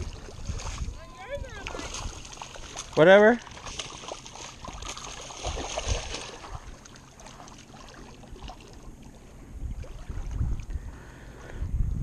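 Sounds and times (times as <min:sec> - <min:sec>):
water splashing and sloshing: 0:00.0 - 0:11.7.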